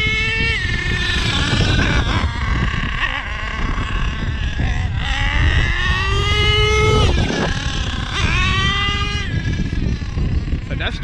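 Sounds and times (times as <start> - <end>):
small nitro engine revving: 0.0 - 11.0.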